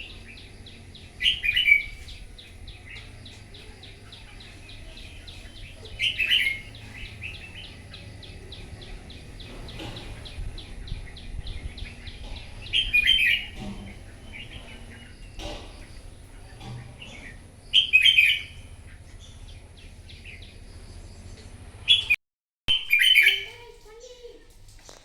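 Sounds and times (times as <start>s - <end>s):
bird warbling song: 0.0s - 24.2s.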